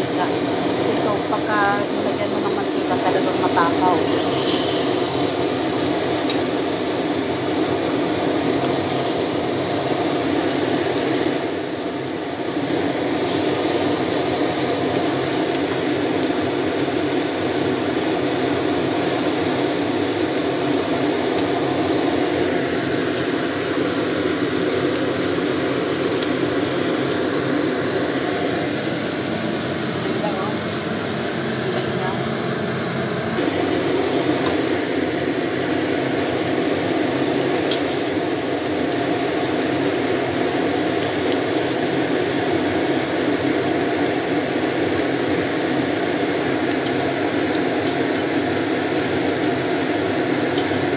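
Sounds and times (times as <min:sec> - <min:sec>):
fish sizzling in hot oil: 0:00.0 - 0:29.7, 0:33.3 - 0:50.9.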